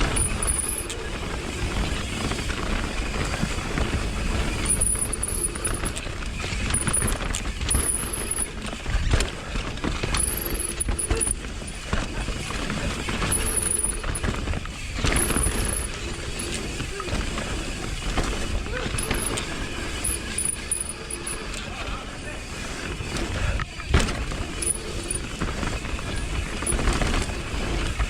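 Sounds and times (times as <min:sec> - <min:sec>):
bike chain and frame rattling: 0:00.0 - 0:28.0
bike tyres rolling over dirt: 0:00.0 - 0:28.0.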